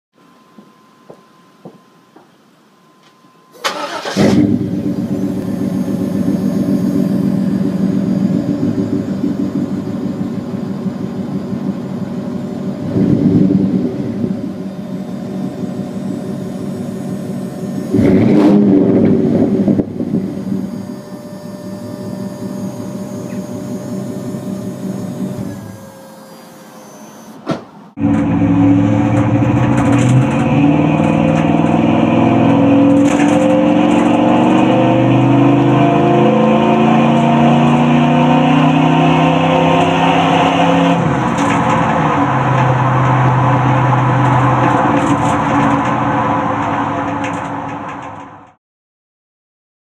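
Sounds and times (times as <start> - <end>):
truck engine accelerating: 3.6 - 27.3, 27.9 - 48.6.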